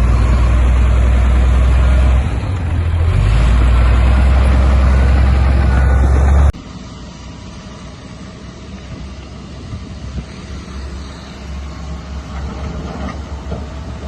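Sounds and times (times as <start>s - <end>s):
heavy diesel engine running: 0.0s - 14.0s
low engine rumble: 0.0s - 14.0s.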